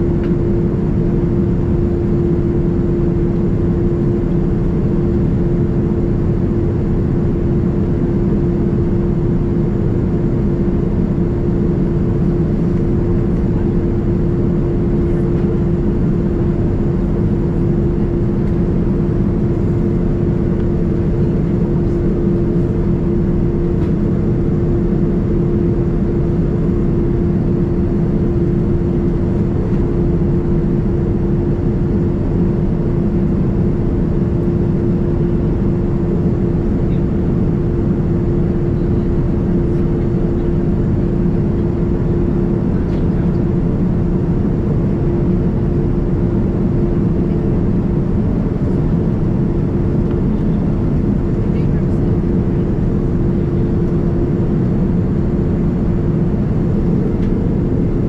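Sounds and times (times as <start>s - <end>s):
airplane cabin rumble: 0.0s - 58.0s
constant humming tone: 0.0s - 58.0s.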